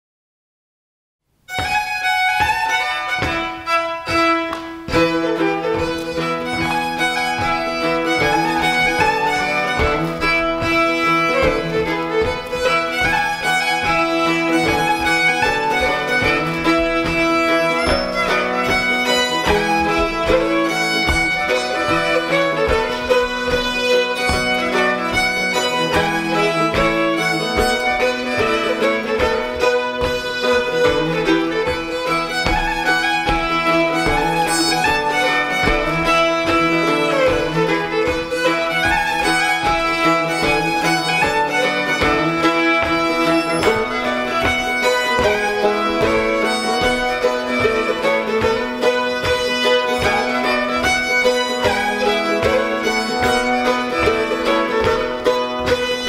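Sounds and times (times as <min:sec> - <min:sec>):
fiddle melody: 0:01.3 - 0:56.0
plucked string instrument: 0:01.4 - 0:56.0.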